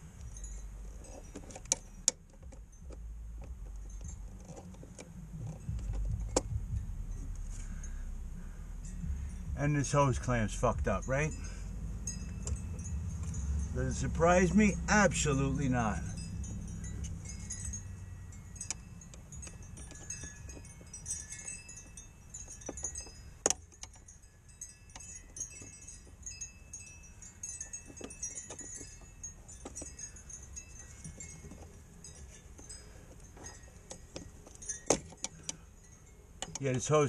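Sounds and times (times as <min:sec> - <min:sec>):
faint high tinkling: 0:00.0 - 0:37.0.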